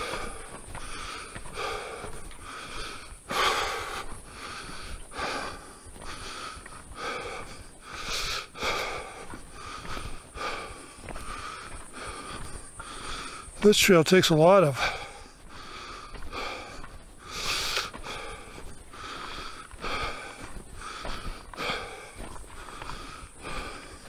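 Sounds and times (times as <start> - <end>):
person breathing hard: 0.0 - 13.7, 14.7 - 24.0.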